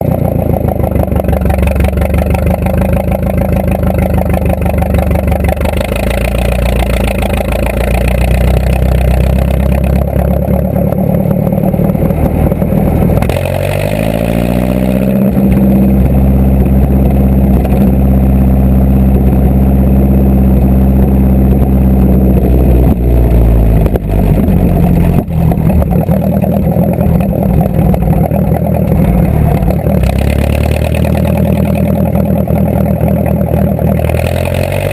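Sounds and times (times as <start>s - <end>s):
tractor engine revving: 0.0s - 34.9s.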